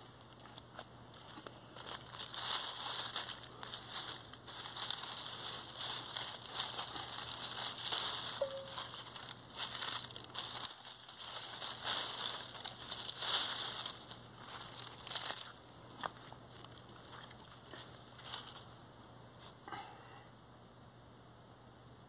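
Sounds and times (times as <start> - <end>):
dry grass and leaves crackling: 0.0 - 19.6.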